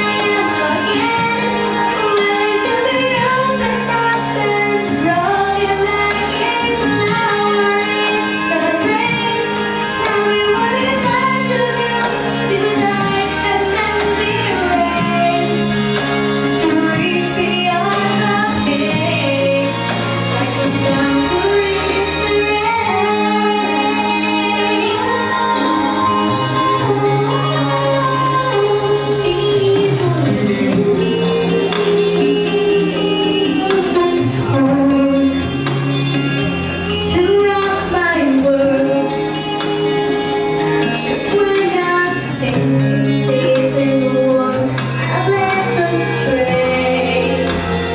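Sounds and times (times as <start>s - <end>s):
held bass notes: 0.0s - 47.9s
instrumental accompaniment: 0.0s - 47.9s
women singing: 0.0s - 47.9s.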